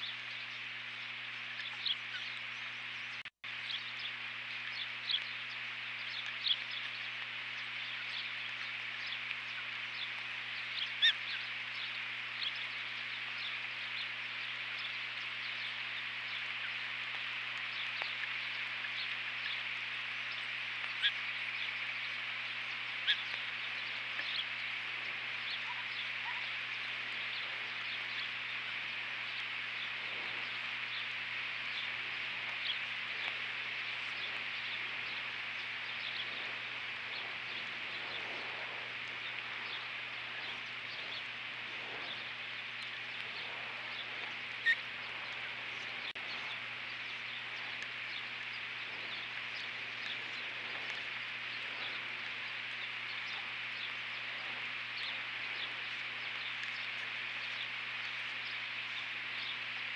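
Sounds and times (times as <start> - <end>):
faint bird chirps: 0.0 - 59.9
low even hum: 0.0 - 59.9
steady hiss: 0.0 - 59.9.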